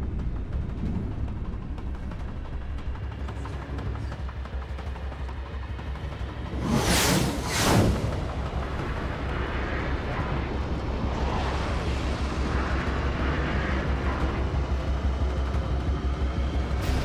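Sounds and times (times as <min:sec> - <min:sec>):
rocket motor rumble: 0:00.0 - 0:17.0.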